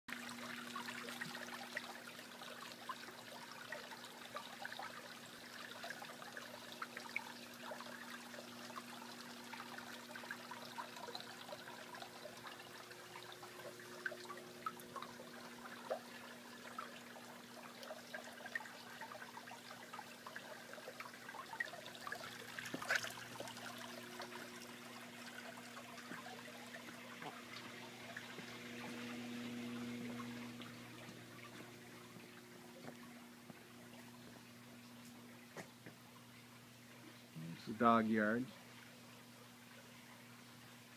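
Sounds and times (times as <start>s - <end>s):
low steady hum: 0.1s - 40.9s
water trickling and splashing: 0.1s - 40.9s.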